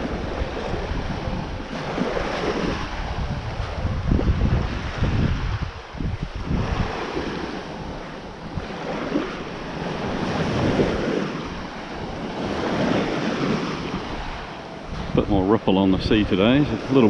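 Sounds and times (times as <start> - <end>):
small waves washing ashore: 0.0 - 17.0
wind buffeting microphone: 0.0 - 17.0.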